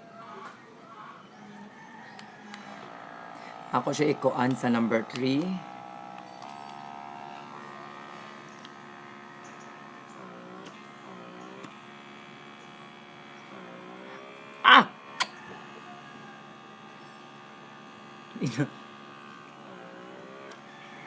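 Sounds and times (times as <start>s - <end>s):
small suction motor humming: 1.6s - 21.0s.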